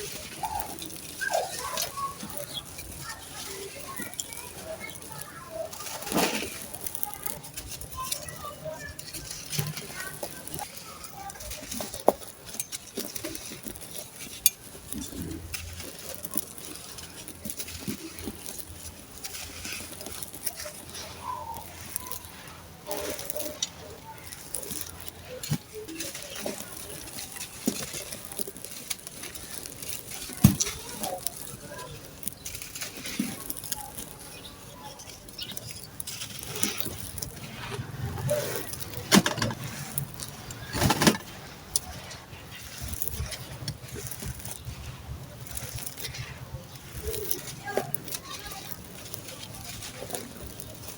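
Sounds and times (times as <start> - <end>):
sand-cement chunks crumbling: 0.0 - 50.9.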